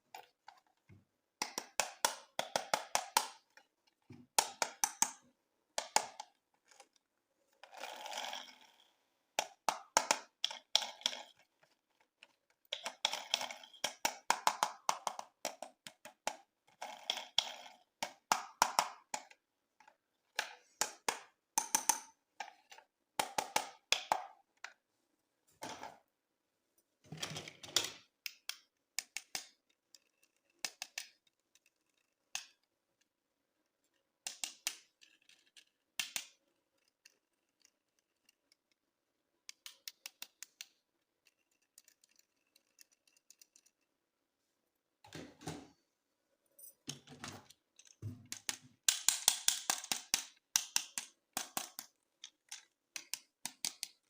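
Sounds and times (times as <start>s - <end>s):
plastic toys clicking and tapping: 0.1s - 24.8s, 27.1s - 44.0s, 46.9s - 54.0s.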